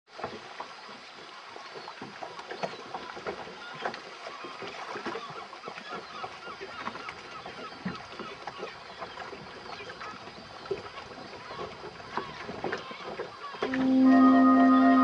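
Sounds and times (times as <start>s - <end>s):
water splashing against boat hull: 0.1s - 15.0s.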